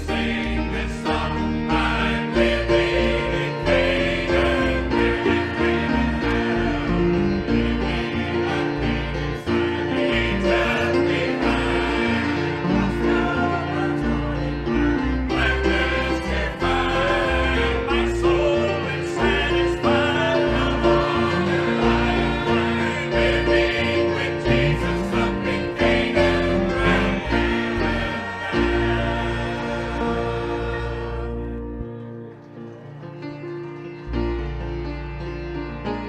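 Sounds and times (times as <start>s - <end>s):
group singing gospel song: 0.0s - 31.9s.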